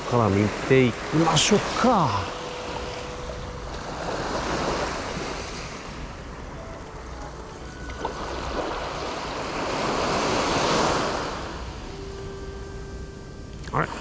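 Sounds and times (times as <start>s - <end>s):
small waves washing on sand: 0.0s - 11.9s.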